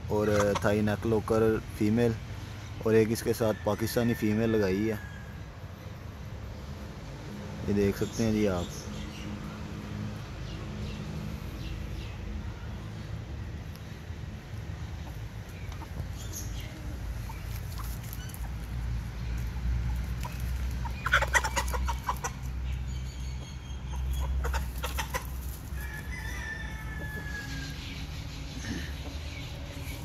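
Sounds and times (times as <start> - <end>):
chickens clucking: 0.0 - 5.0, 10.2 - 30.0.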